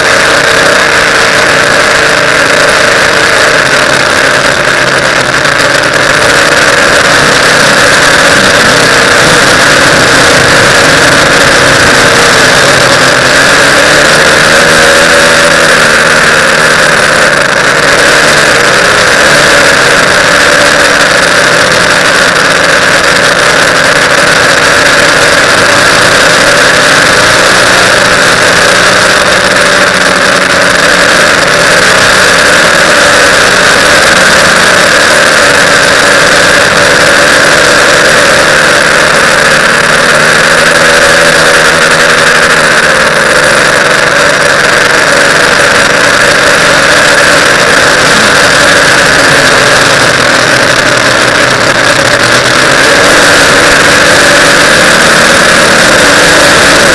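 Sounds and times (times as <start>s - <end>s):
drone motors whining: 0.0s - 56.9s.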